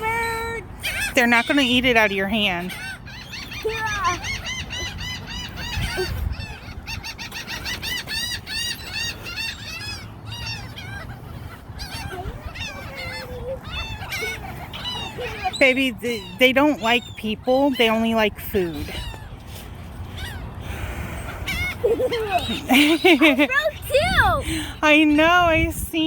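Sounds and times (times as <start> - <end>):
flock of birds calling: 0.0 - 25.6.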